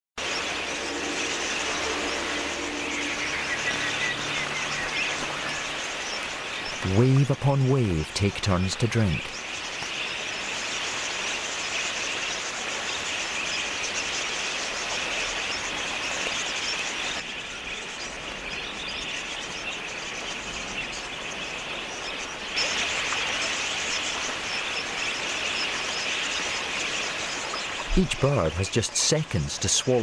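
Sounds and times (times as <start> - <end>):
flock of budgerigars chattering: 0.2 - 30.0.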